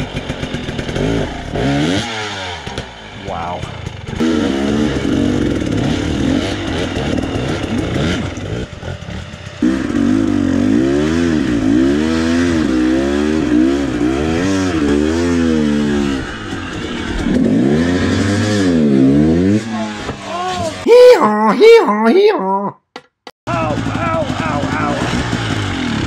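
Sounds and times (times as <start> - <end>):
dirt bike engine revving: 0.0 - 21.5, 23.5 - 26.0.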